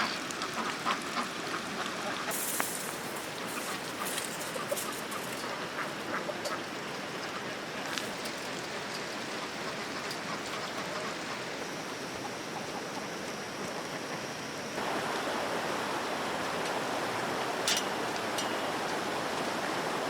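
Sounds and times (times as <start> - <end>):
hiss of running water: 0.0 - 20.0.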